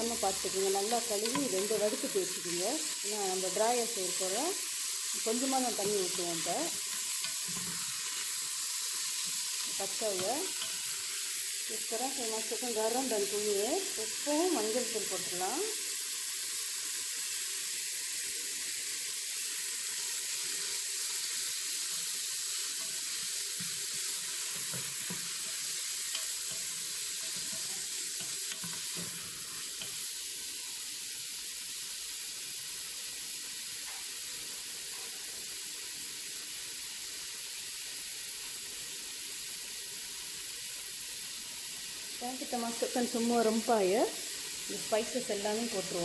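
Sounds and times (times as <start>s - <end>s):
meat sizzling in a pot: 0.0s - 46.0s.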